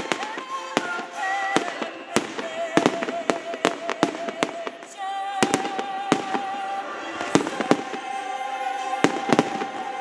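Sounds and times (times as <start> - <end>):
fireworks bursting: 0.0 - 10.0
fireworks crackling: 0.0 - 10.0
music holding a long note: 0.0 - 10.0.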